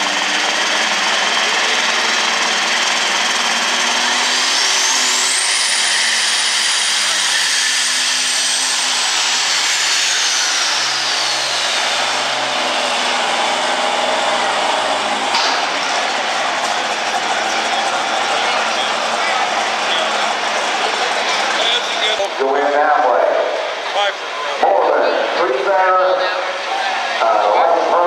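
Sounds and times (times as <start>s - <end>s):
tractor engine revving: 0.0s - 23.9s.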